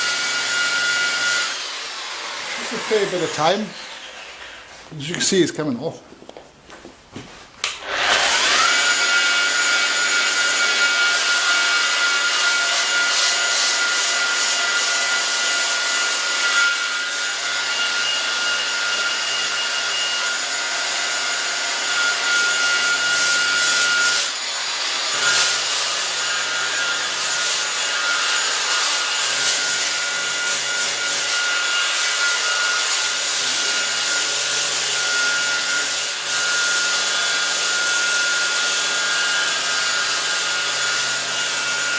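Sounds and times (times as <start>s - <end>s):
power sander grinding metal: 0.0s - 4.8s, 7.8s - 41.9s.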